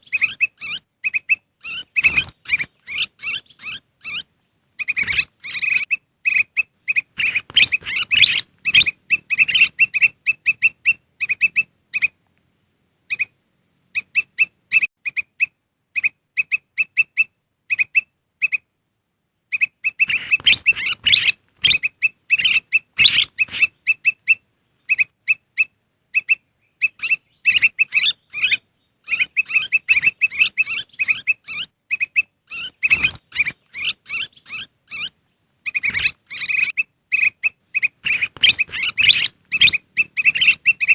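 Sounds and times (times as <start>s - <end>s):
bulbuls chirping rapidly: 0.0s - 12.2s, 19.6s - 40.9s.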